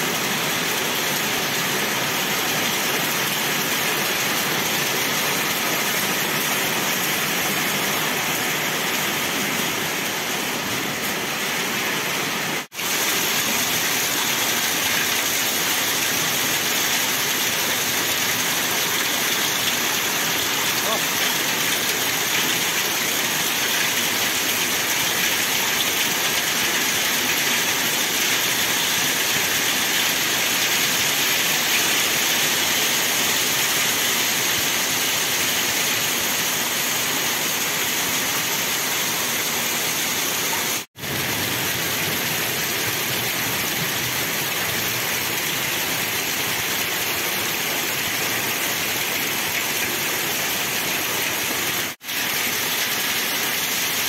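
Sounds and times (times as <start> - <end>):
heavy rain and hail falling: 0.0 - 54.0.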